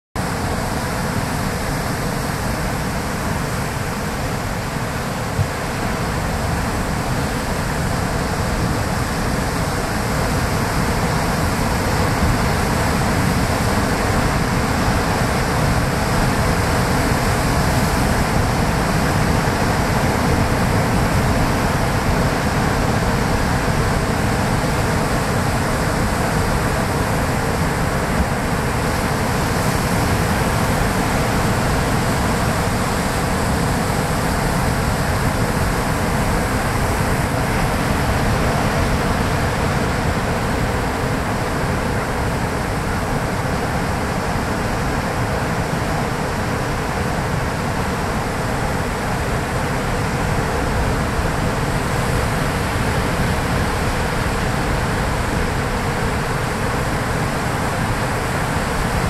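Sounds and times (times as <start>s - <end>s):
surf rushing on beach: 0.2s - 59.0s.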